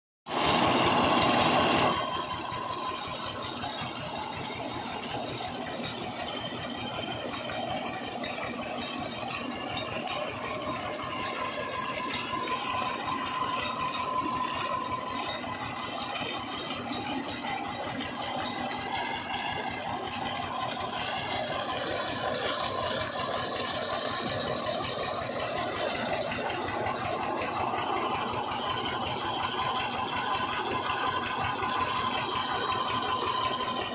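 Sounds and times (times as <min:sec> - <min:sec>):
diesel tractor engine running: 0:00.3 - 0:33.9.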